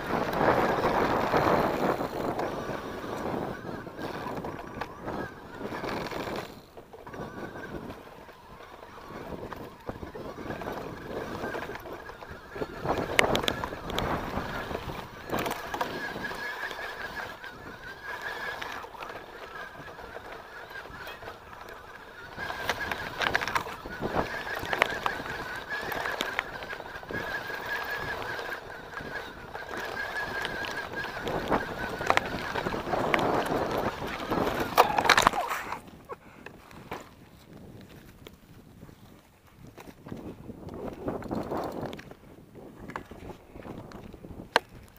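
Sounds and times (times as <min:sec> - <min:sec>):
disc brakes squealing: 0:00.0 - 0:36.2
bike clicks and rattles: 0:00.0 - 0:44.9
bike tyres on dirt: 0:00.0 - 0:44.9.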